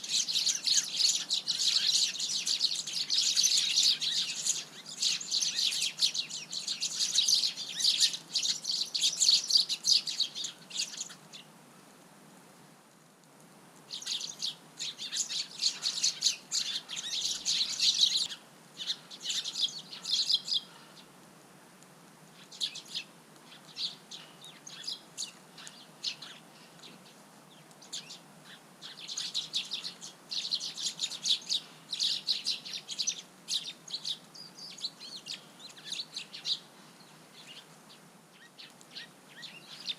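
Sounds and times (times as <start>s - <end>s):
sparrows chirping rapidly: 0.0s - 11.5s, 13.9s - 21.1s, 22.4s - 39.9s.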